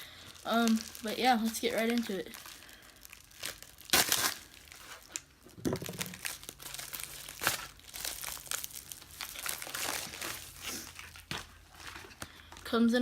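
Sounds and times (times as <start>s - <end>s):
plastic packaging crinkling: 0.0s - 13.0s
packaging tearing: 0.3s - 11.9s.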